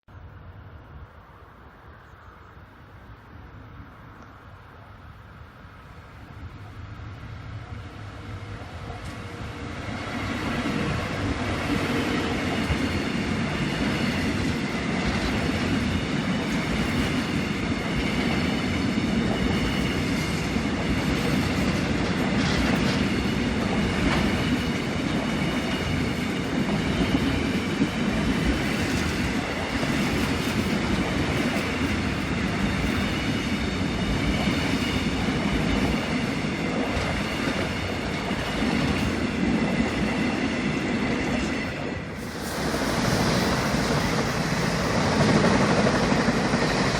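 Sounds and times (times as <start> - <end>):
diesel train rumbling on track: 5.7 - 46.9.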